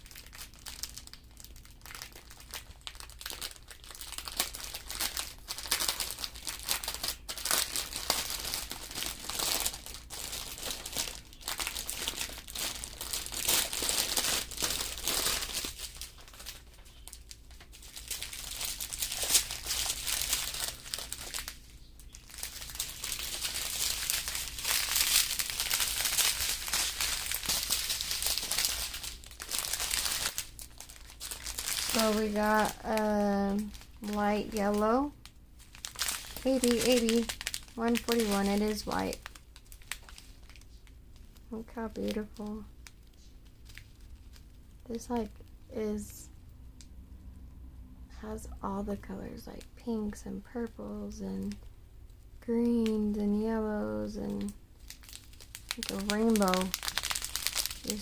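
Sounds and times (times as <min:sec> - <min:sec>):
plastic bags crinkling: 0:00.0 - 0:45.3, 0:52.6 - 0:58.0.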